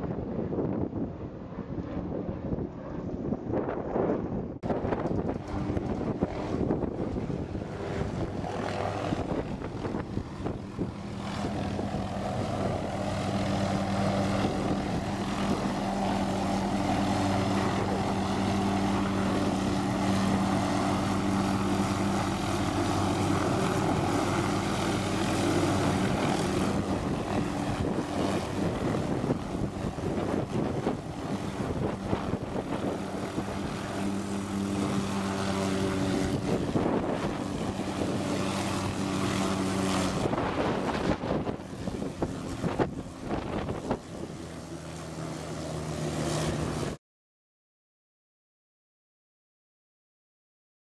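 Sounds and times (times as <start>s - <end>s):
helicopter engine and rotor drone: 0.0s - 47.0s.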